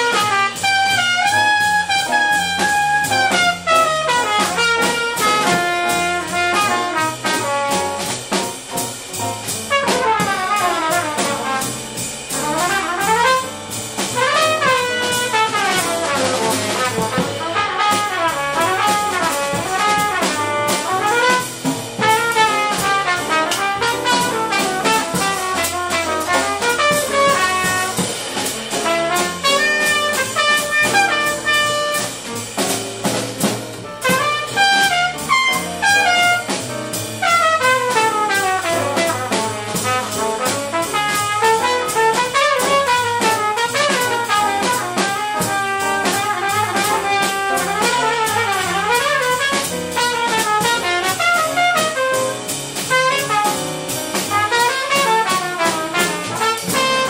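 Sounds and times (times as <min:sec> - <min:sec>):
double bass: 0:00.0 - 0:57.0
drums: 0:00.0 - 0:57.0
jazz trumpet solo: 0:00.0 - 0:57.0
piano: 0:00.0 - 0:57.0.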